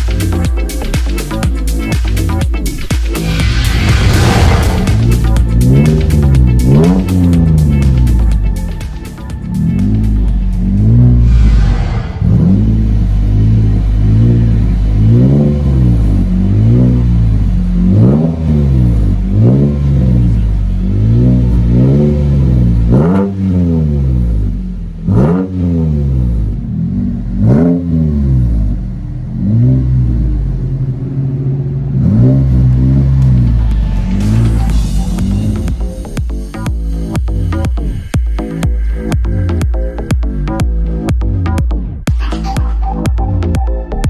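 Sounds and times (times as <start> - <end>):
truck engine revving: 2.7 - 41.6.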